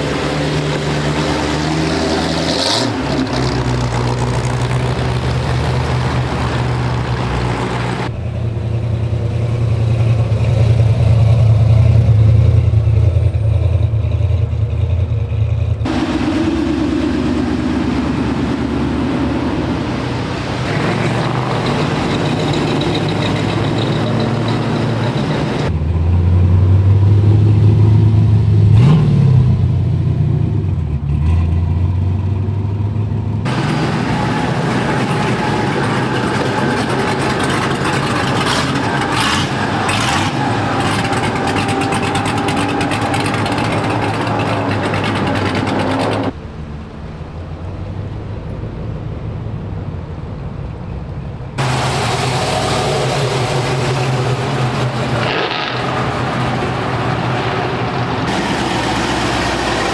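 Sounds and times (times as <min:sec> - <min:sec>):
cars driving slowly past: 0:00.0 - 0:59.9
deep engine rumble and rev: 0:00.0 - 0:59.9.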